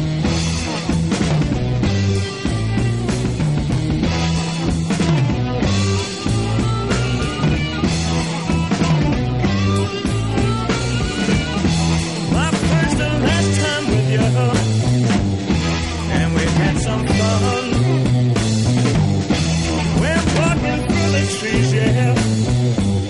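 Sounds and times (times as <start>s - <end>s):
bass guitar: 0.0s - 23.0s
electric guitar: 0.0s - 23.0s
steady drum beat: 0.0s - 23.0s.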